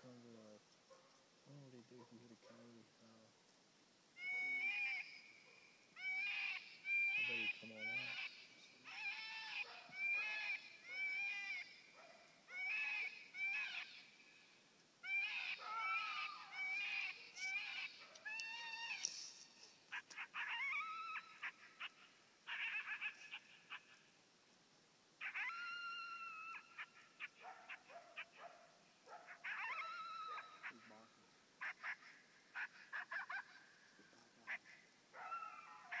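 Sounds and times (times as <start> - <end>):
coyote barking and yipping: 0.8 - 2.8, 4.2 - 14.1, 15.0 - 24.1, 25.2 - 36.0.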